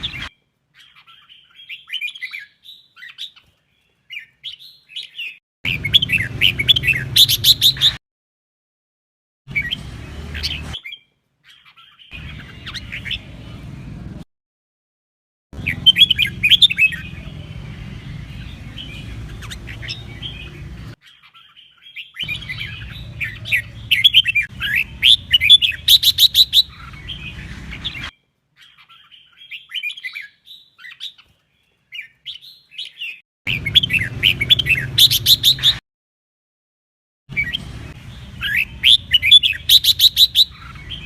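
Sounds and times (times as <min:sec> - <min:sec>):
bird warbling song: 0:00.0 - 0:08.0, 0:09.5 - 0:13.9, 0:15.6 - 0:35.8, 0:37.3 - 0:41.0.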